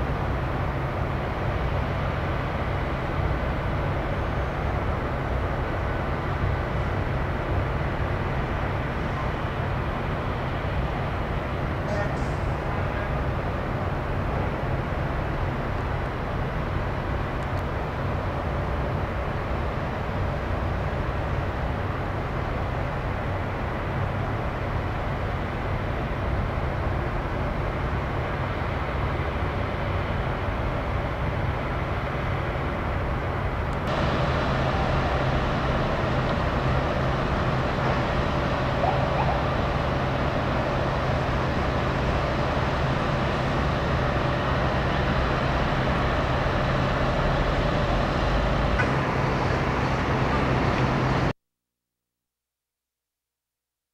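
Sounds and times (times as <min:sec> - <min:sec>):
traffic rumble: 0:00.0 - 0:51.3.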